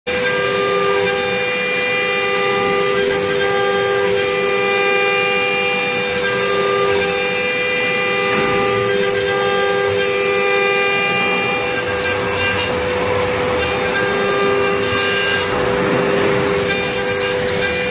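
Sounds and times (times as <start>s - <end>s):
cnc router whining: 0.1s - 17.9s.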